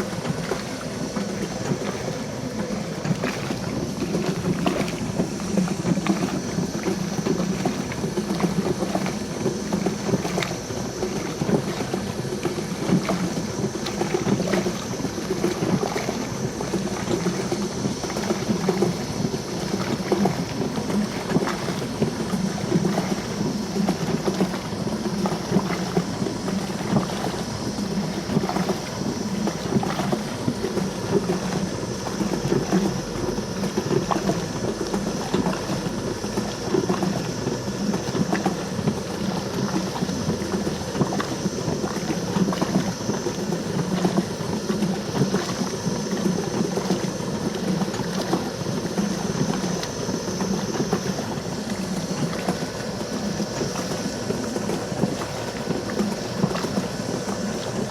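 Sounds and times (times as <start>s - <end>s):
washing machine motor hum: 0.0s - 57.9s
water sloshing rhythmically: 0.0s - 57.9s.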